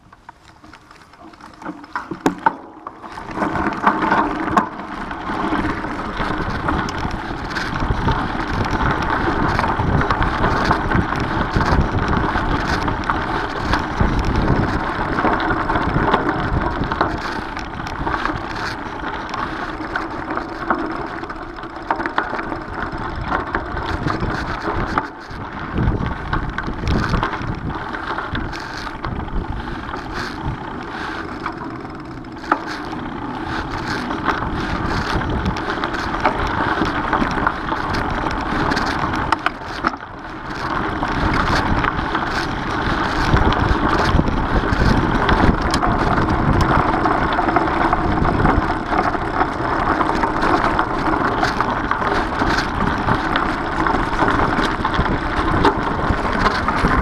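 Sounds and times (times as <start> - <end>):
bike rattling: 0.0 - 57.0
bike tyres crunching on gravel: 0.0 - 57.0
wind noise on microphone: 1.2 - 57.0.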